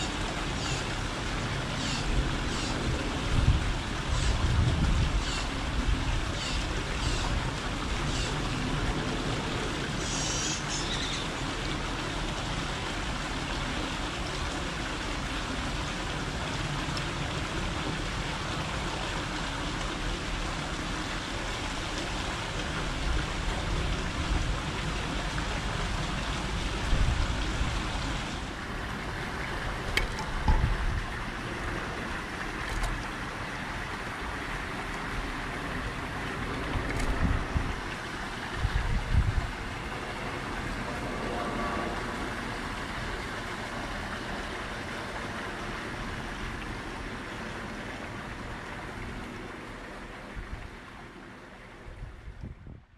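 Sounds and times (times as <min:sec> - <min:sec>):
outdoor background noise: 0:00.0 - 0:52.9.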